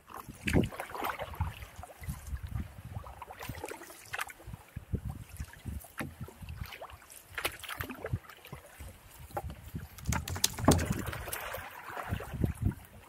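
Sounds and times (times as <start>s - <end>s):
paddle strokes splashing: 0.0s - 13.0s
waves slapping against hull: 0.0s - 13.0s
wind on microphone: 0.1s - 3.7s, 4.4s - 6.8s, 8.0s - 13.0s.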